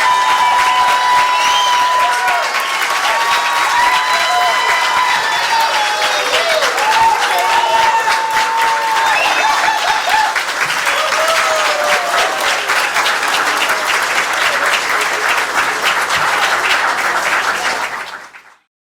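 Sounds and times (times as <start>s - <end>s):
audience applauding: 0.0s - 18.7s
people cheering: 0.0s - 18.7s.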